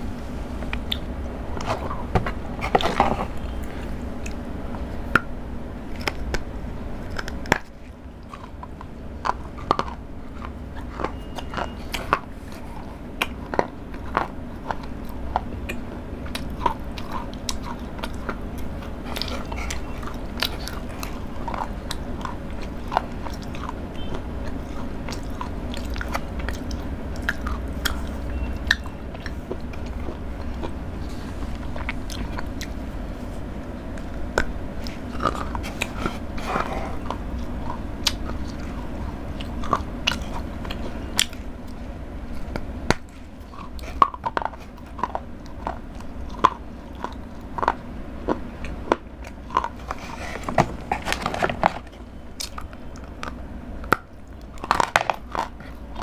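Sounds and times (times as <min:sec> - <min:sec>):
steady low hum: 0:00.0 - 0:56.0
chocolate crunching and snapping: 0:00.6 - 0:56.0
wet chewing: 0:00.6 - 0:56.0.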